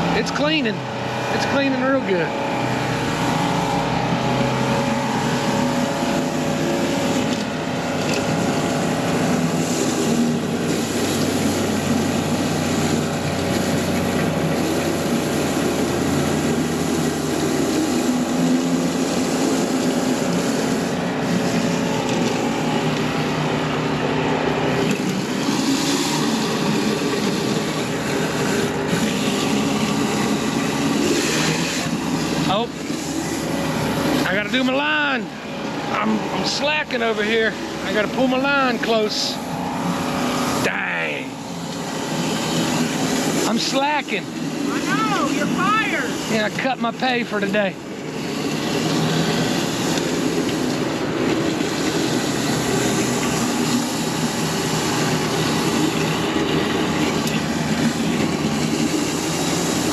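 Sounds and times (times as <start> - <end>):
pressure washer engine running: 0.0 - 59.9
water jet hissing on concrete: 0.0 - 59.9.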